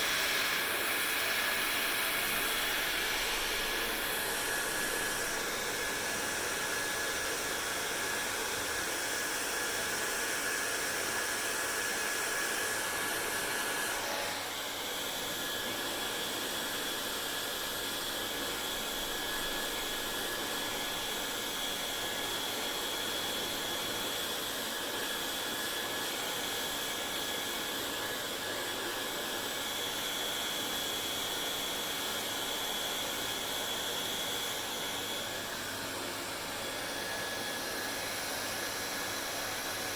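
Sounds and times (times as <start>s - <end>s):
hair dryer blowing with whine: 0.0s - 39.9s.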